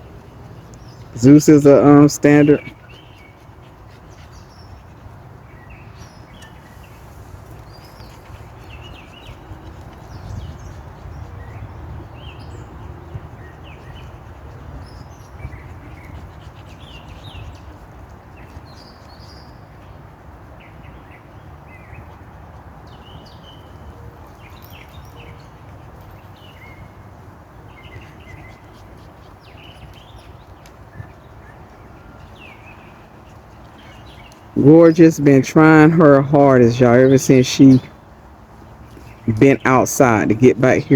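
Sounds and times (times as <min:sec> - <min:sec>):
birds chirping: 0:00.0 - 0:22.2, 0:22.8 - 0:40.9.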